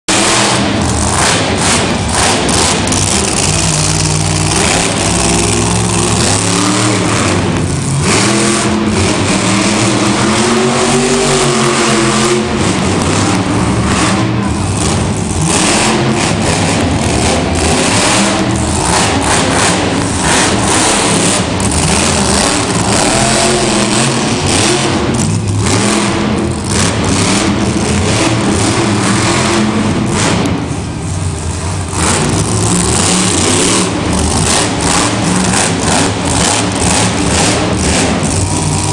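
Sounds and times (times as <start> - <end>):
truck engine revving: 0.1 - 38.9.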